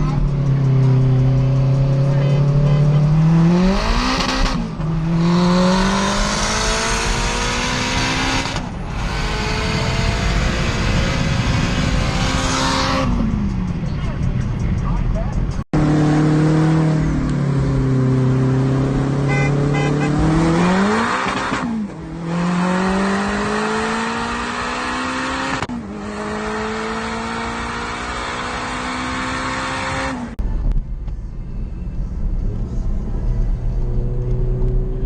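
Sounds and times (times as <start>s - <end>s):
car engine accelerating hard: 0.0s - 14.2s, 15.8s - 30.4s.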